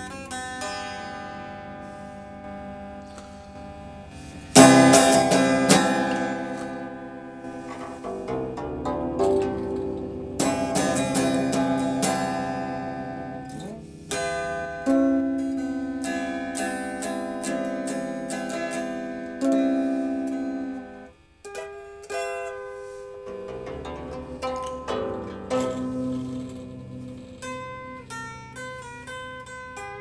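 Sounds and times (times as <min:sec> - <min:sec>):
plucked zither music: 0:00.0 - 0:30.0.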